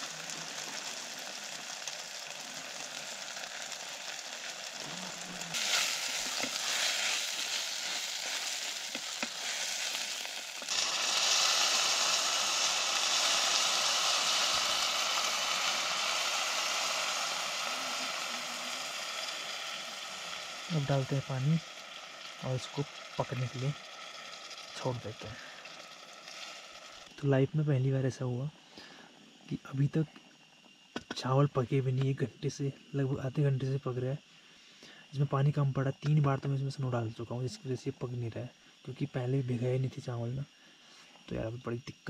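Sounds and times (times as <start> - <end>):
rice sizzling in a pan: 0.0 - 42.0.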